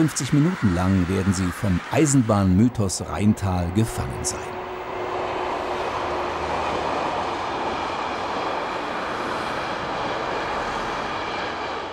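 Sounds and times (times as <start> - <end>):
train wheels on rails: 0.0 - 11.9.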